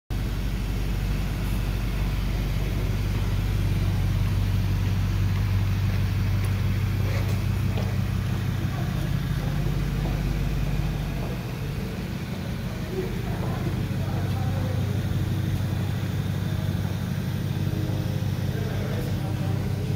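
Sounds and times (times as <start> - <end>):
car engine idling: 0.1 - 19.9.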